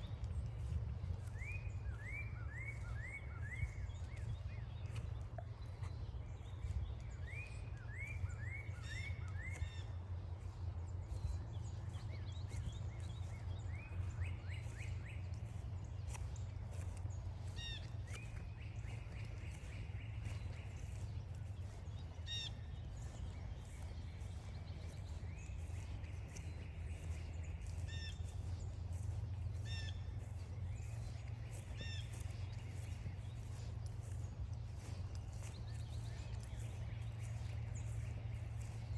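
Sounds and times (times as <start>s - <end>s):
songbirds calling and singing: 0.0s - 38.9s
steady low rumble: 0.0s - 38.9s.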